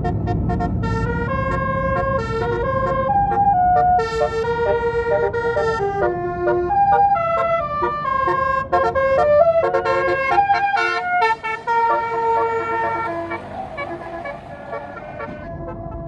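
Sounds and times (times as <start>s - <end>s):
bus engine rumble: 0.0s - 16.0s
bus horn playing melody: 0.0s - 16.0s.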